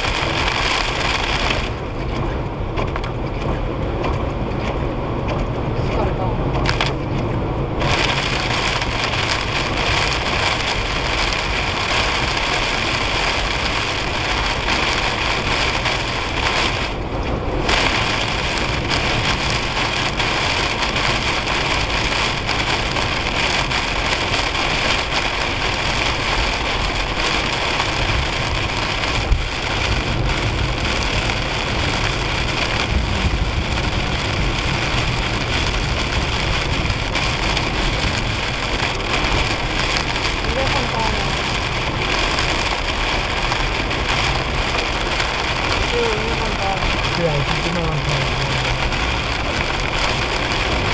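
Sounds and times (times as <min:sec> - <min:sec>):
heavy rain on car: 0:00.0 - 0:50.9
tyre noise on wet road: 0:00.0 - 0:50.9.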